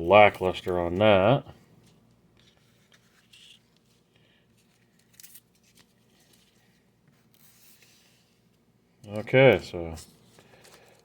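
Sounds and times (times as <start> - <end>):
trading cards rustling and clicking: 0.2 - 8.4, 9.0 - 11.0.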